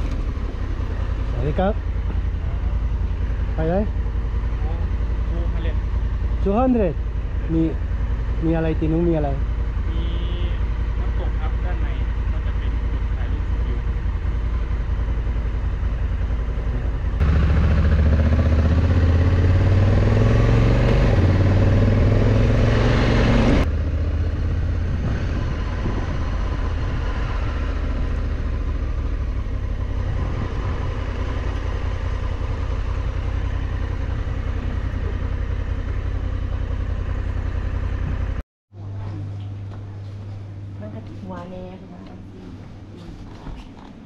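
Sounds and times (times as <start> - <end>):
wind and road noise: 0.0 - 38.4
motorcycle engine running: 0.0 - 41.4.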